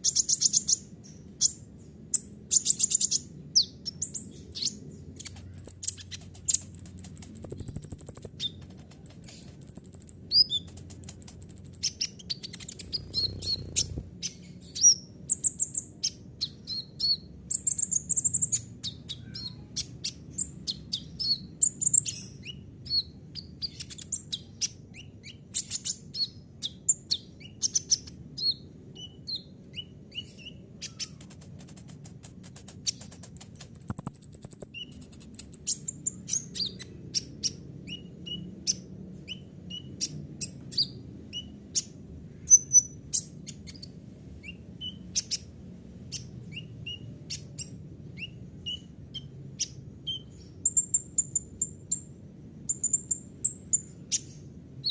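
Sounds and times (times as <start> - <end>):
bird singing high chirps and trills: 0.0 - 31.6, 32.5 - 45.5, 46.1 - 54.9
faint low hum: 0.0 - 54.9.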